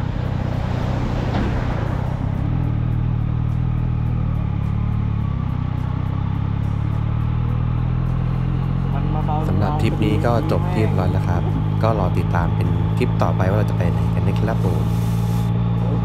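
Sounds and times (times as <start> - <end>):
truck passing: 0.0 - 16.0
wind and tyre noise: 0.0 - 16.0
motorcycle engine running: 1.6 - 16.0.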